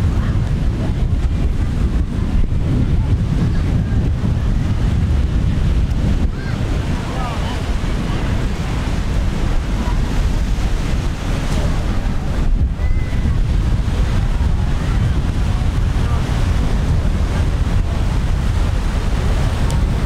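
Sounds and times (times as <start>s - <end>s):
surf washing: 0.0s - 20.0s
wind buffeting microphone: 0.0s - 20.0s.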